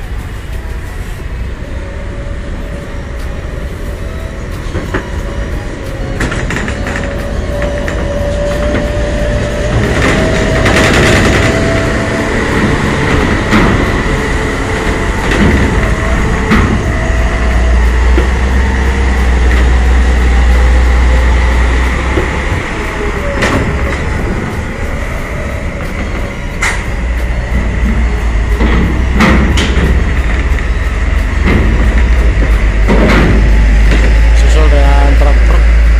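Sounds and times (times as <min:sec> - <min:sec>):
diesel engines rumbling: 0:00.0 - 0:35.9
wheels clanking on metal plates: 0:04.5 - 0:35.9.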